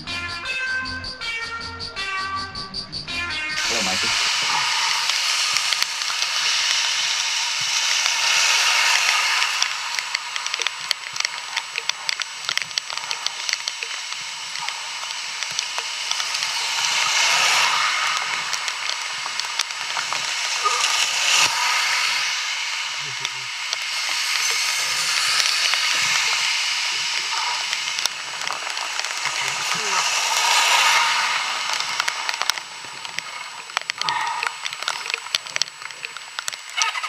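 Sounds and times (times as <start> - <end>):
heavy rain hiss: 3.6 - 37.0
raindrops hitting microphone: 3.6 - 37.0.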